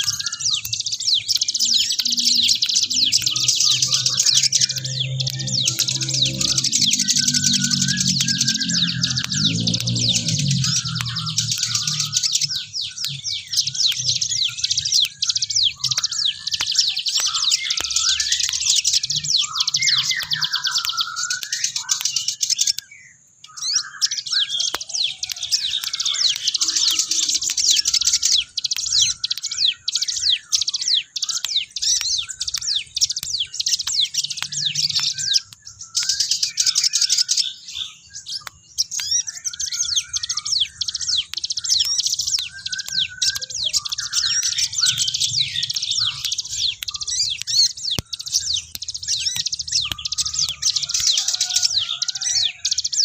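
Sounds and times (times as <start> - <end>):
bird chirping and warbling: 0.0 - 53.0.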